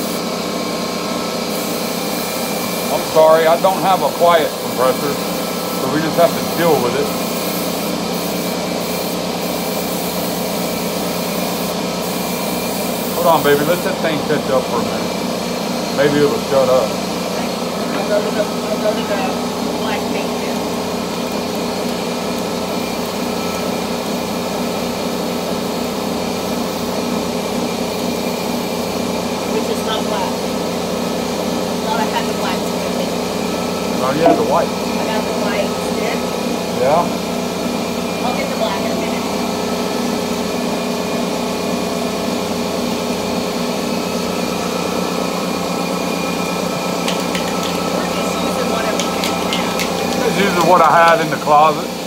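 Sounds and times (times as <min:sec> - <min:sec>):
air compressor running: 0:00.0 - 0:52.0.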